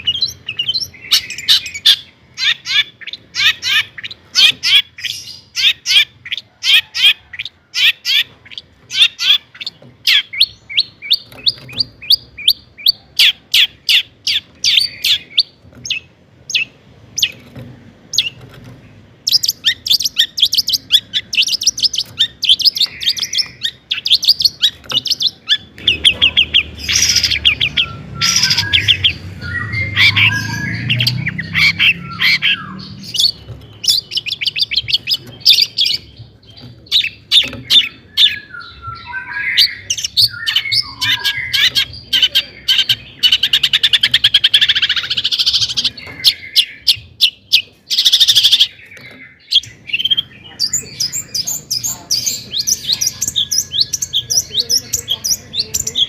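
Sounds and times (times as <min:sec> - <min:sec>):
bird singing sharp repeated notes: 0:00.0 - 0:17.5, 0:19.2 - 0:56.0.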